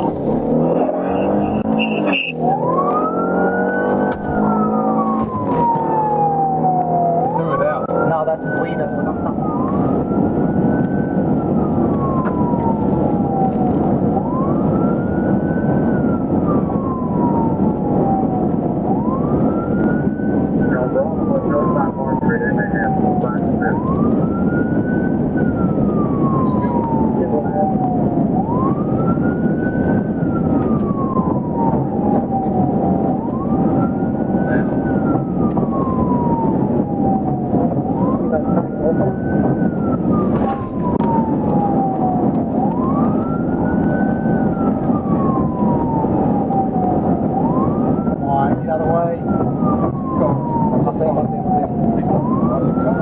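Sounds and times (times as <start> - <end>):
engine and road noise: 0.0 - 53.0
police siren wailing: 0.0 - 53.0.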